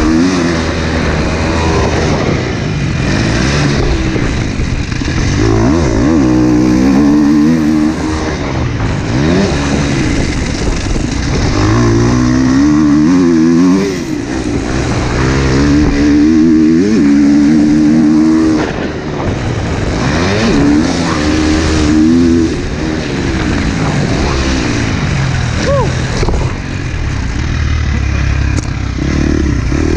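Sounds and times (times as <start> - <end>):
wind rush: 0.0 - 27.4
dirt bike engine revving: 0.0 - 29.9.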